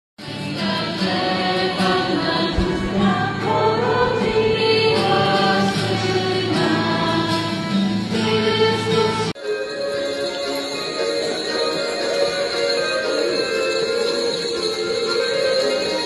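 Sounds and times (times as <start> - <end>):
choir singing: 0.2 - 16.0
instrumental accompaniment: 0.6 - 16.0.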